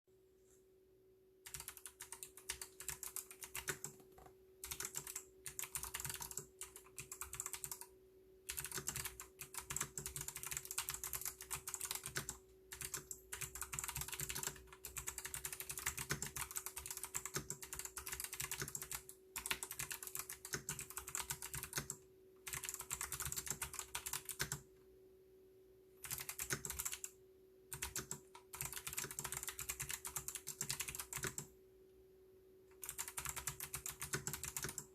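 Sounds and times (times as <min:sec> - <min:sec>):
faint steady hum: 0:00.1 - 0:34.9
mechanical keyboard typing: 0:01.5 - 0:07.9, 0:08.5 - 0:24.6, 0:26.0 - 0:31.5, 0:32.7 - 0:34.9.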